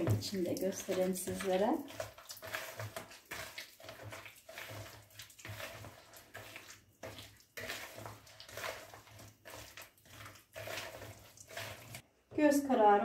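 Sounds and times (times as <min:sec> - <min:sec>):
hands squelching paste in bowl: 0:00.0 - 0:12.0.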